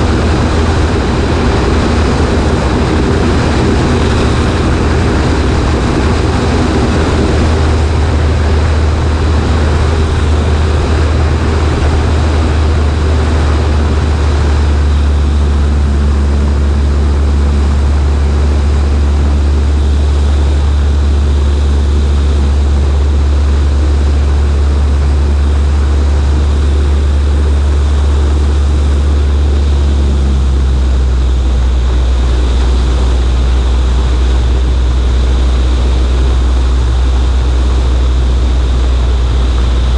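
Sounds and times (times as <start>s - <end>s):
propeller plane engine drone: 0.0s - 39.9s
wind rushing: 0.0s - 39.9s.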